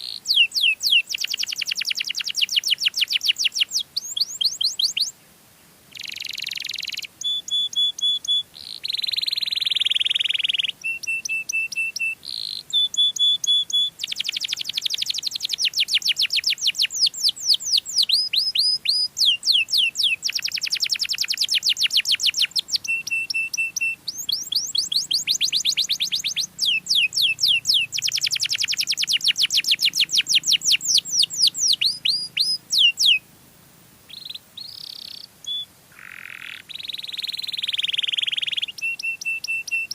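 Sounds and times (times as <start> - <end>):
canary singing: 0.0 - 5.2, 5.9 - 33.3, 34.1 - 39.9.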